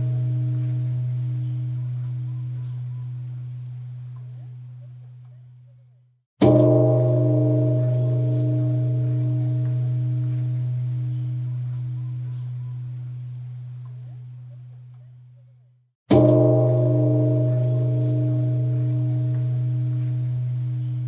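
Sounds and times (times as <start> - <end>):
temple bell ringing: 0.0 - 4.3, 6.4 - 14.3, 16.1 - 21.0.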